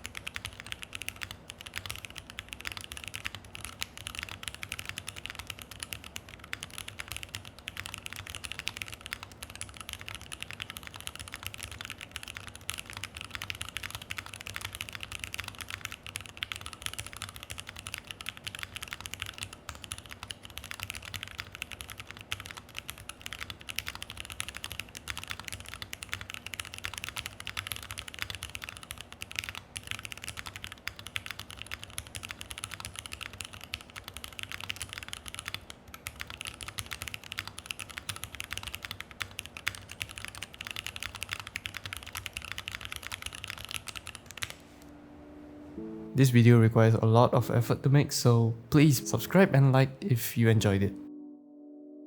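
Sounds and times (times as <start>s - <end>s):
mechanical keyboard typing: 0.0s - 44.6s.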